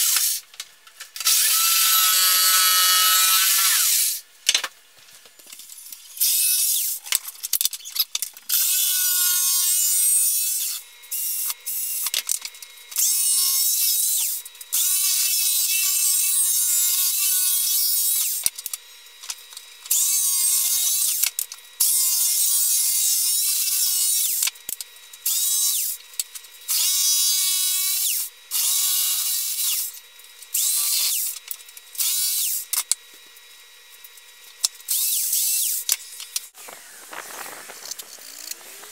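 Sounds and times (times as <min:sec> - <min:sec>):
jigsaw cutting hardboard: 0:00.0 - 0:00.4, 0:01.2 - 0:04.2, 0:08.5 - 0:33.0, 0:34.8 - 0:38.9.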